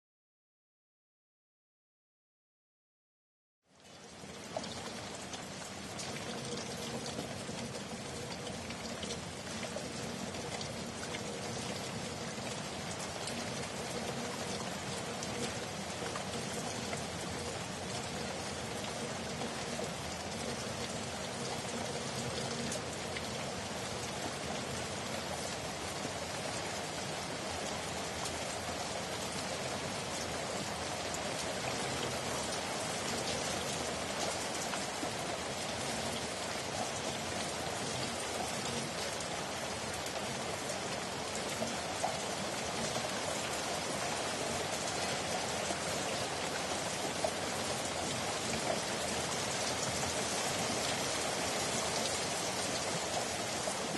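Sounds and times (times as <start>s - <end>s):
steady rainfall: 3.7s - 53.9s.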